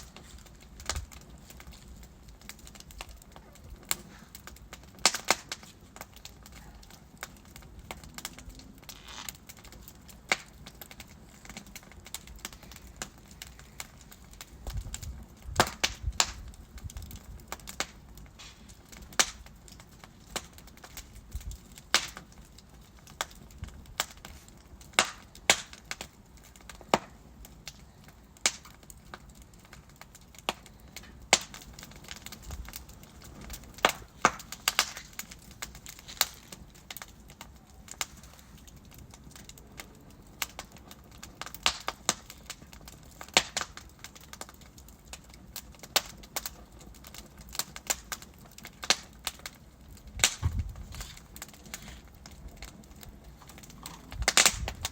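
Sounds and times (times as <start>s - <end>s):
low rumble of flame: 0.0s - 54.9s
wood fire crackling: 0.0s - 54.9s.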